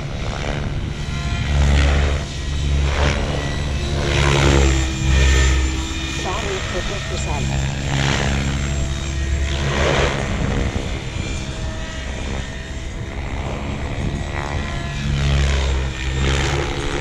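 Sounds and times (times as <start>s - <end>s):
helicopter rotor hum: 0.0s - 17.0s.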